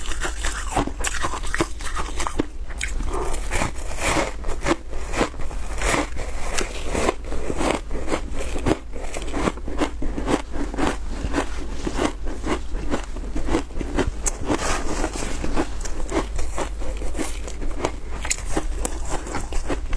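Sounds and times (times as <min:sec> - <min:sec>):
crunching and chewing ice: 0:00.0 - 0:19.9.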